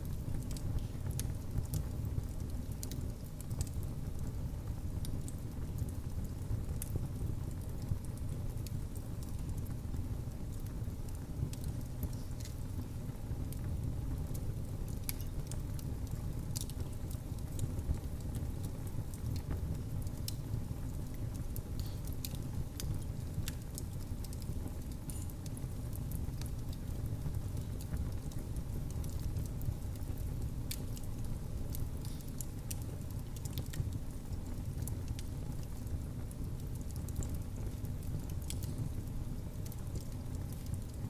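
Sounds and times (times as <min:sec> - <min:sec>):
fire flame rumble: 0:00.0 - 0:41.0
fire popping and snapping: 0:00.0 - 0:41.0.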